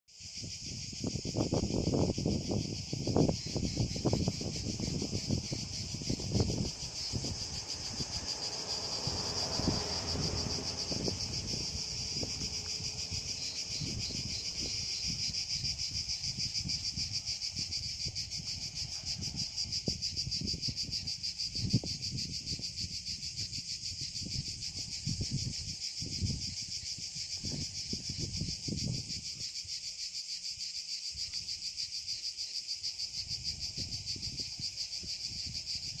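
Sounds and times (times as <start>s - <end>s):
cicadas buzzing: 0.1s - 36.0s.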